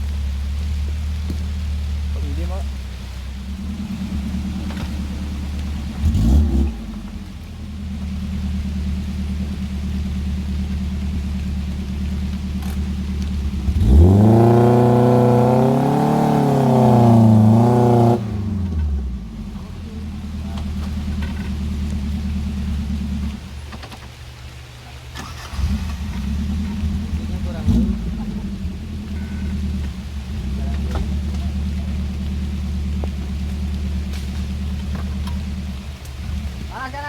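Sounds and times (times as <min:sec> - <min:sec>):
engine idling and revving: 0:00.0 - 0:37.0.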